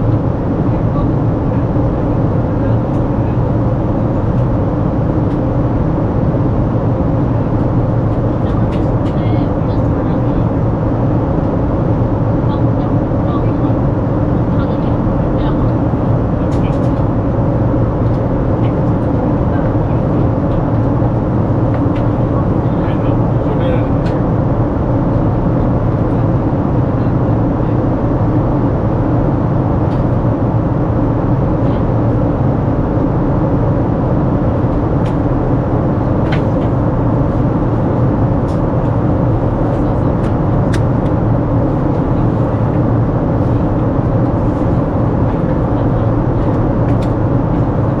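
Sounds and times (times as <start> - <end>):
airplane cabin engine rumble: 0.0 - 48.0.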